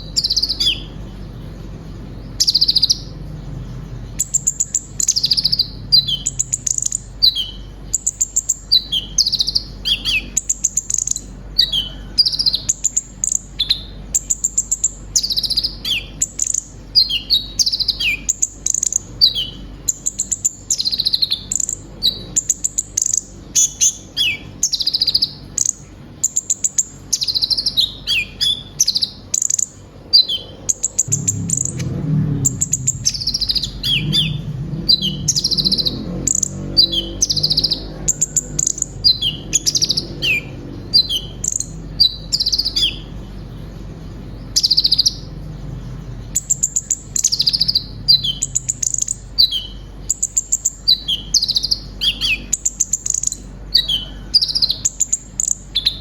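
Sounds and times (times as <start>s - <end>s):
sunbird singing high sharp chirps: 0.0s - 1.2s, 1.9s - 3.4s, 4.0s - 43.3s, 44.2s - 45.5s, 46.3s - 56.0s.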